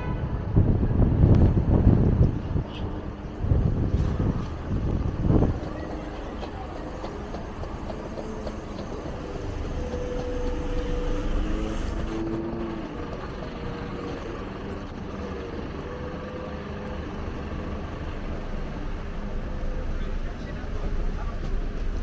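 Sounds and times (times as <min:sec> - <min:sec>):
traffic rumble: 0:00.0 - 0:22.0
passing vehicle hum: 0:00.6 - 0:22.0.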